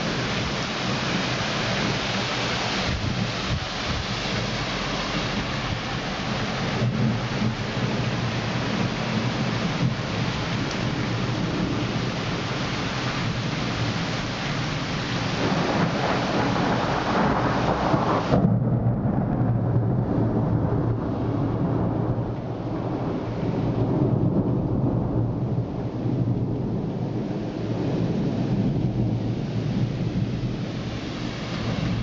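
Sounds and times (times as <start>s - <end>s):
heavy rain hissing: 0.0s - 18.4s, 22.5s - 32.0s
thunder rumbling: 0.0s - 32.0s.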